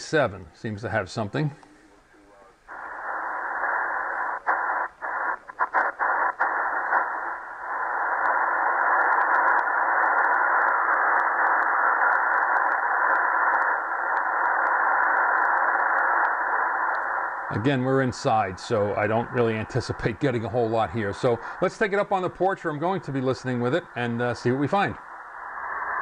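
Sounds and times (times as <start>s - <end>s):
radio muting chuffing: 0.0s - 26.0s
radio static hiss: 0.0s - 26.0s.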